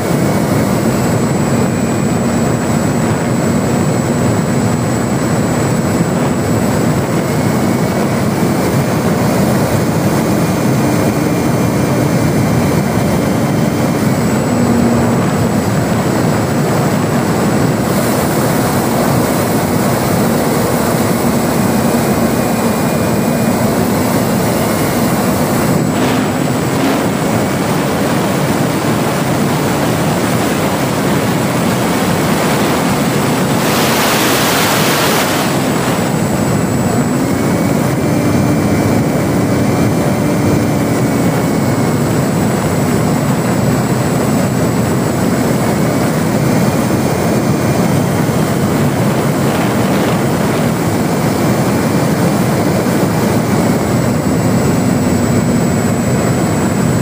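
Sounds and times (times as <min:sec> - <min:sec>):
electric motor and propeller hum: 0:00.0 - 0:57.0
rush of air: 0:00.0 - 0:57.0.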